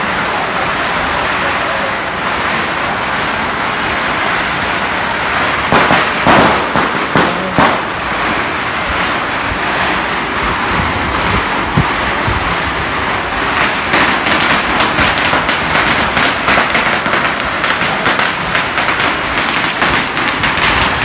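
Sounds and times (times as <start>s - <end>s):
fireworks and firecrackers going off: 0.0s - 21.0s
loud bangs: 2.3s - 21.0s.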